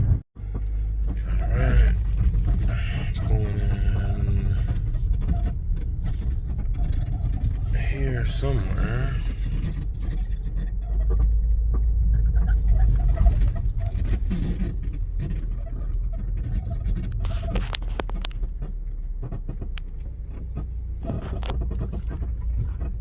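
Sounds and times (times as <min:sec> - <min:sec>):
vehicle rumble from inside cab: 0:00.0 - 0:23.0.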